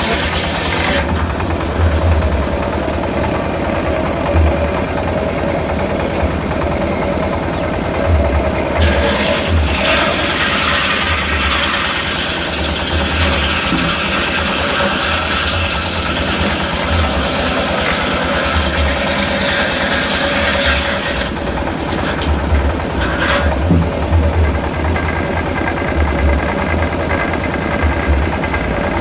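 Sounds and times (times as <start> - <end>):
sawmill engine hum: 0.0 - 29.0.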